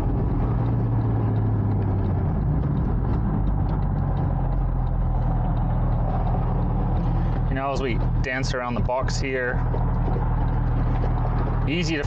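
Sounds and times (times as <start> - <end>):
car engine running: 0.0 - 12.0
road noise: 0.0 - 12.0.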